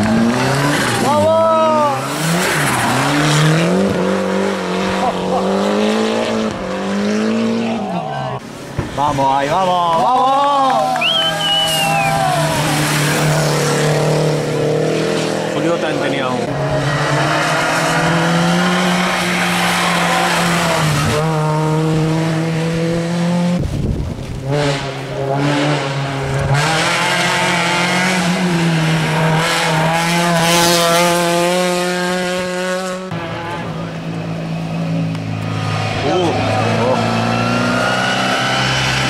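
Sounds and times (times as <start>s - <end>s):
race car engines at high revs: 0.0s - 39.0s.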